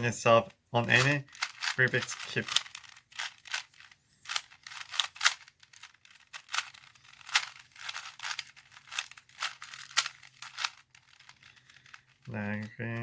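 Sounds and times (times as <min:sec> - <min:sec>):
puzzle cube twisting clicks: 0:00.8 - 0:13.0.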